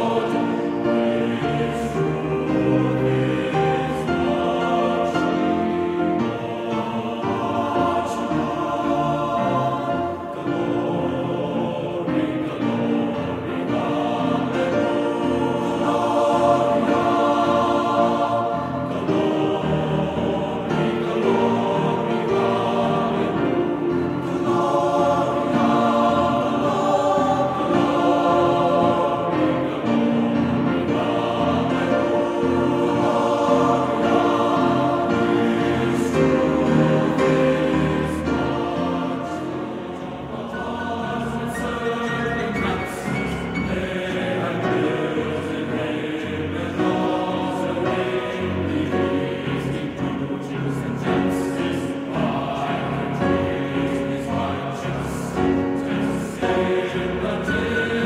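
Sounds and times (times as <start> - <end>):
choir-like singing voices: 0.0 - 58.0.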